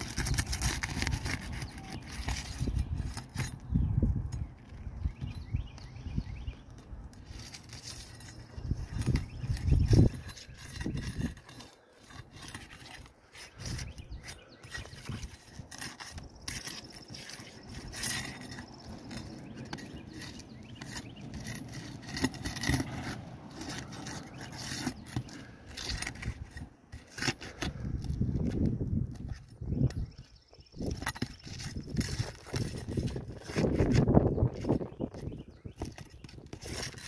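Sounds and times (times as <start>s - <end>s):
pry bar scraping shingles: 0.0s - 37.0s.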